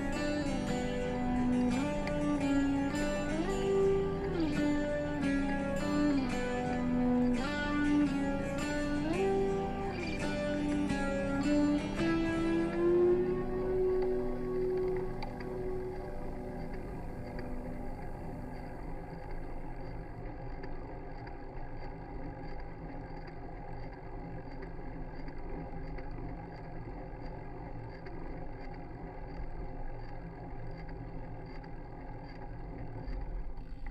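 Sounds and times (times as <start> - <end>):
faint ticks: 0.0 - 33.9.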